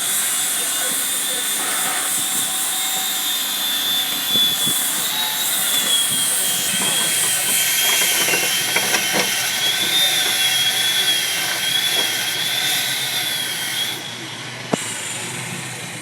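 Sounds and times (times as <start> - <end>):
machine whining: 0.6 - 14.6.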